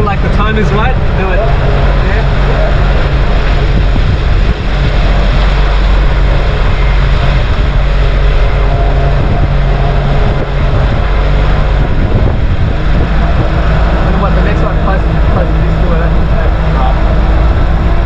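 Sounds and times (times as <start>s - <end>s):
motorboat engine running: 0.0s - 18.0s
wind and water rushing: 0.0s - 18.0s.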